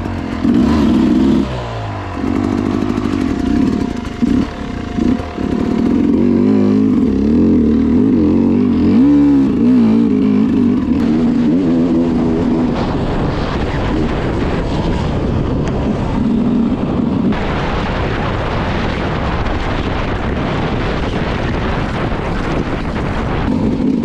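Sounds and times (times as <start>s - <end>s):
motorcycle engine revving: 0.0s - 24.0s
wind noise on microphone: 0.0s - 24.0s.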